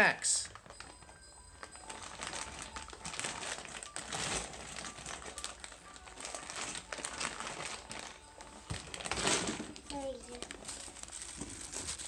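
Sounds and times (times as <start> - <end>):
packaging crinkling and rustling: 0.4 - 12.0.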